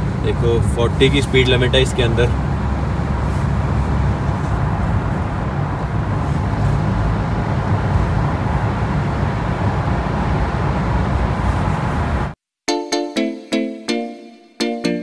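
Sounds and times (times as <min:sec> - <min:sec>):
car road noise in tunnel: 0:00.0 - 0:12.4.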